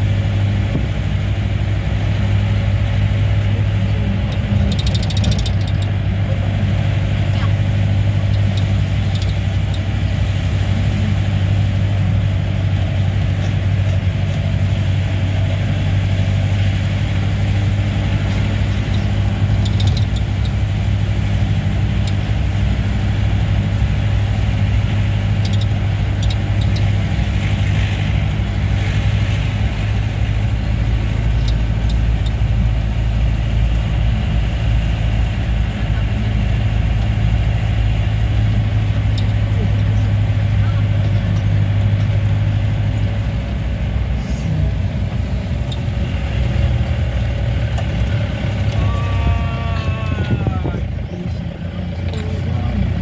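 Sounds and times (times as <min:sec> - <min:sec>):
car engine running: 0:00.0 - 0:53.0
vehicle rattles: 0:00.0 - 0:53.0.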